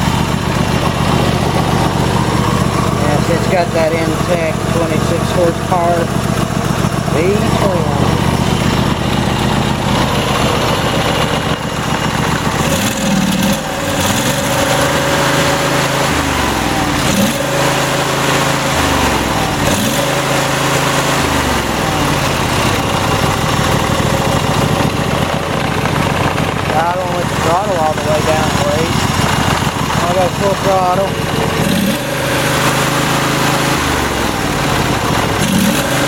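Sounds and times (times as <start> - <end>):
riding mower engine running: 0.0 - 36.0.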